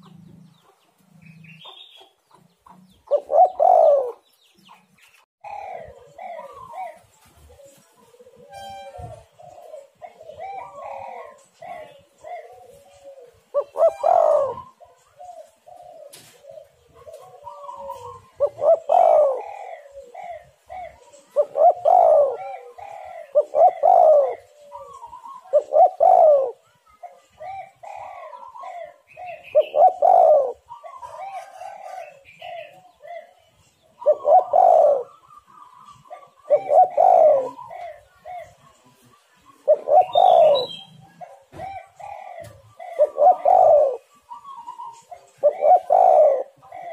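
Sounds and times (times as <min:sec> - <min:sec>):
doves cooing: 0:00.0 - 0:46.9.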